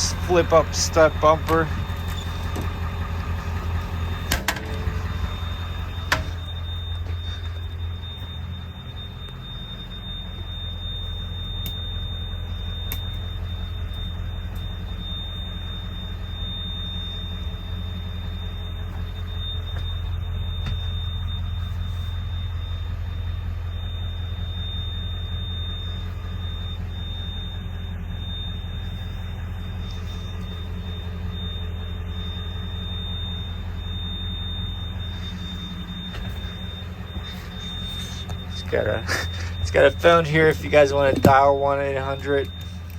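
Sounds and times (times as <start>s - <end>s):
diesel engine idling: 0.0s - 42.9s
high-pitched whine: 0.0s - 42.9s.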